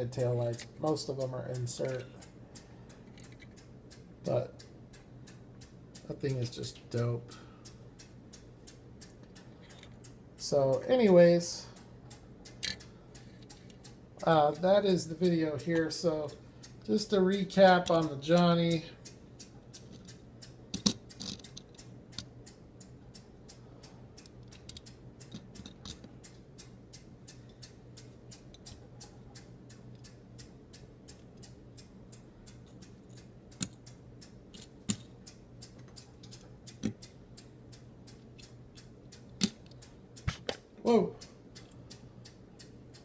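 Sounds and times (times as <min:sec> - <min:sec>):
low steady hum: 0:00.0 - 0:43.0
rapid clicking and light tapping: 0:00.0 - 0:43.0
sharp clicks: 0:00.4 - 0:43.0.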